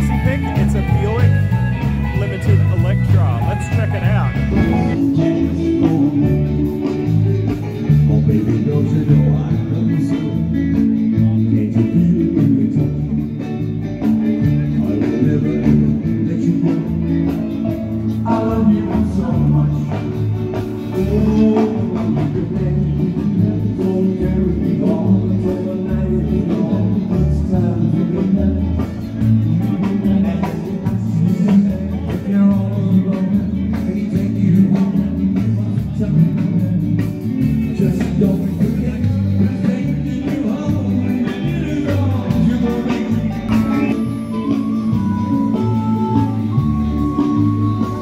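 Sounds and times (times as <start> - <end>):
song with beat and singing: 0.0 - 48.0.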